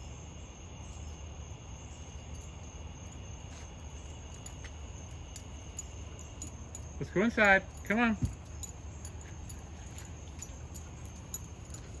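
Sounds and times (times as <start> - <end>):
crickets chirping: 0.0 - 12.0
faint metallic tinkles: 0.0 - 12.0.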